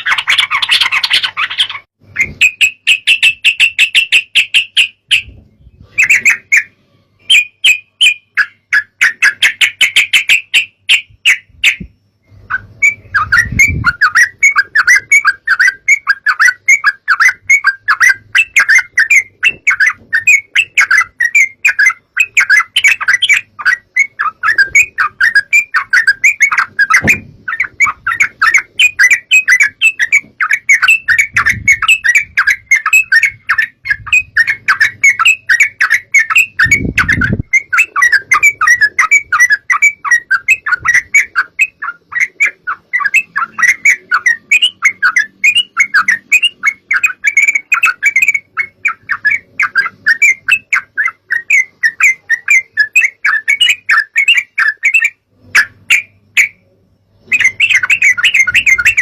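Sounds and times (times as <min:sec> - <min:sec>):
bird chattering song: 0:00.0 - 0:59.0.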